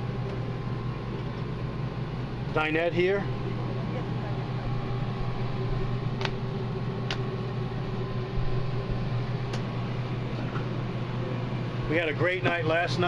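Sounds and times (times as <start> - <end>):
electric fan motor humming: 0.0 - 13.0.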